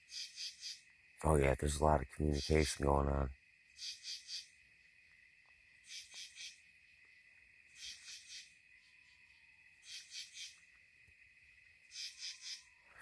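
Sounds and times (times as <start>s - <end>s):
cricket trill: 0.0s - 13.0s
insect call in quick pulses: 0.0s - 13.0s.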